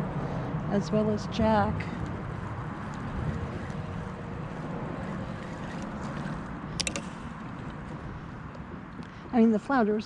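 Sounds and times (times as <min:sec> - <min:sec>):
water around kayak: 0:00.0 - 0:09.3
wind noise on microphone: 0:00.0 - 0:10.0.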